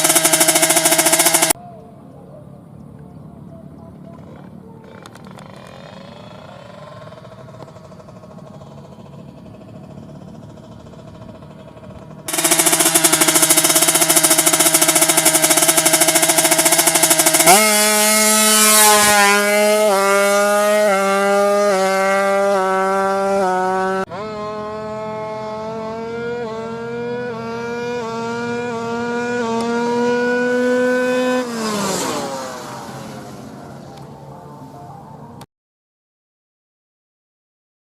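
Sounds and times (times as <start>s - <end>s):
motorcycle engine revving: 0.0s - 1.6s, 4.8s - 34.6s.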